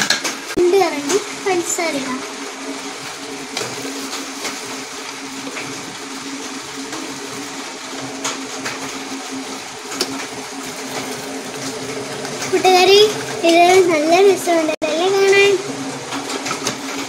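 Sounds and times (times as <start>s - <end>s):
gas burner hum: 0.0s - 17.0s
water boiling in a pot: 0.0s - 17.0s.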